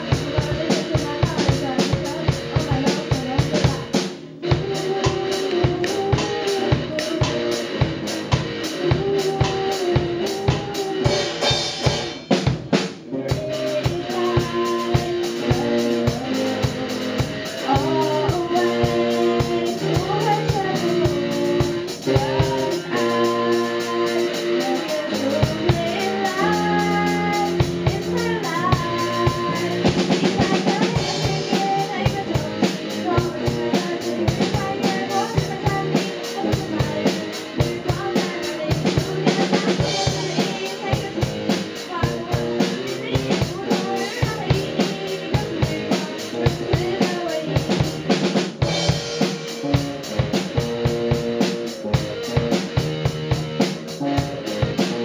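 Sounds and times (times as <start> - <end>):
girl singing lead vocal: 0.0 - 12.5, 13.1 - 55.0
live pop band: 0.0 - 55.0.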